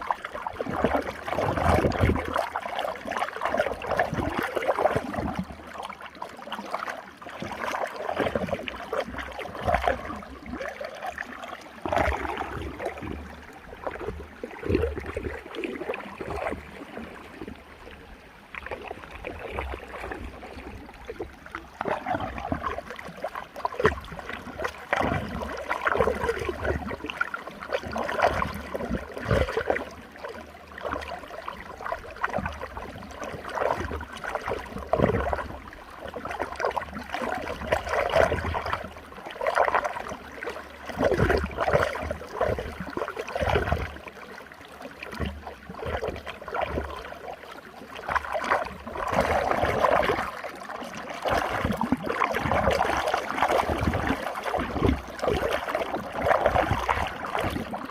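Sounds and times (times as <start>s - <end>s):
water swirling in a whirlpool: 0.0s - 57.9s.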